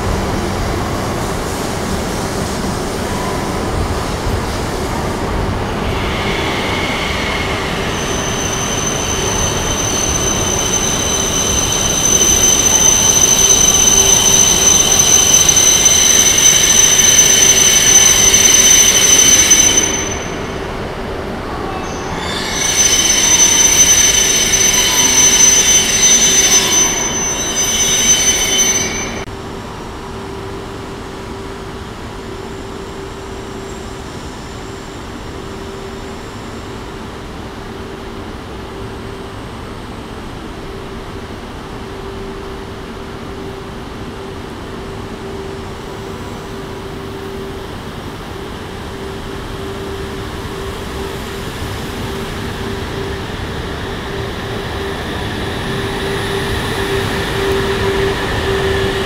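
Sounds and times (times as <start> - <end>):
train rushing with high whine: 0.0 - 59.0.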